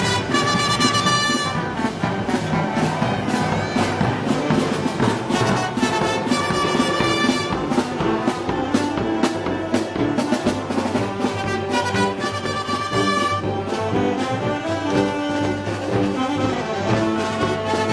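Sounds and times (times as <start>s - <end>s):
brass band street march: 0.0s - 17.9s
drum and cymbal strikes: 0.0s - 17.9s.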